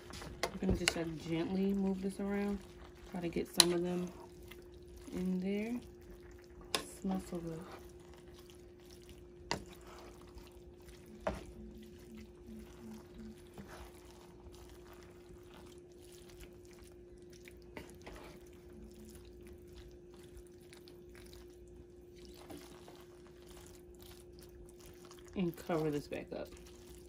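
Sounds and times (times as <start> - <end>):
spoon squishing and scraping food: 0.0 - 27.0
steady low hum: 0.0 - 27.0.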